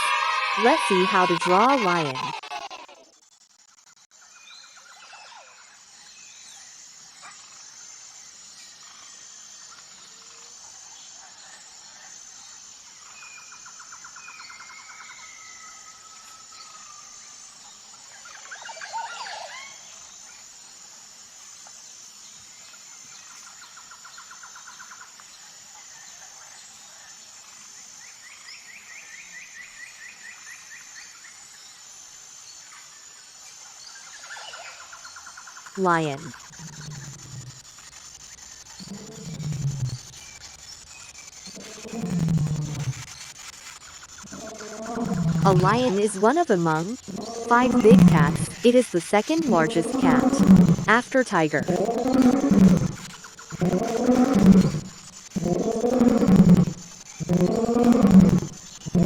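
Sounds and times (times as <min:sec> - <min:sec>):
pulsing insect drone: 0:00.0 - 0:59.0.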